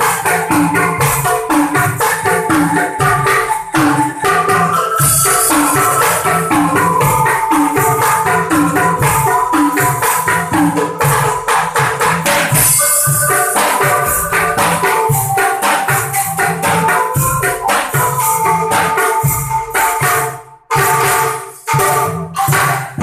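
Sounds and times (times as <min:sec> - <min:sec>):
angklung ensemble playing: 0:00.0 - 0:23.0
barrel drum beat: 0:00.0 - 0:23.0.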